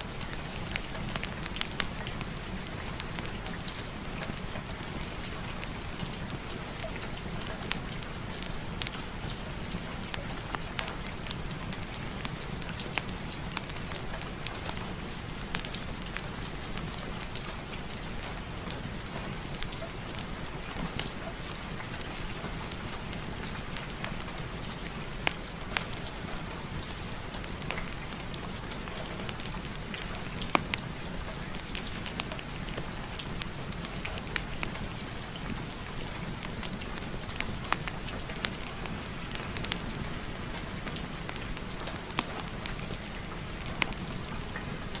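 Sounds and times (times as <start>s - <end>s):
steady rain: 0.0s - 45.0s
wood fire crackling: 0.0s - 45.0s.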